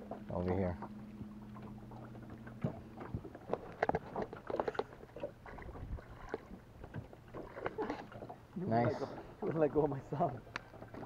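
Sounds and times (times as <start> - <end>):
steady low hum: 0.0 - 11.0
water splashing: 0.0 - 11.0.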